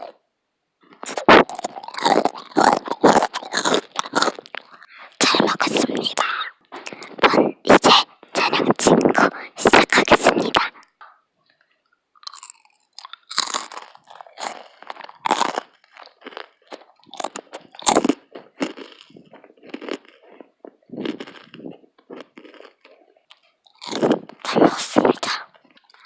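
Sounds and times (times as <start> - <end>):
crunching and chewing snack: 0.0 - 0.2, 0.8 - 26.0.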